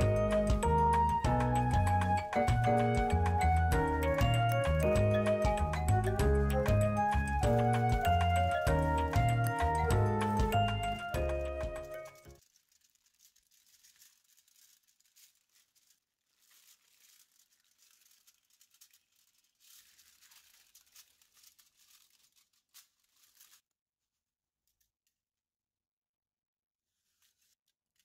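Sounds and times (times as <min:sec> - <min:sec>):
foil and plastic glove crinkling: 0:00.3 - 0:23.7, 0:26.9 - 0:28.0.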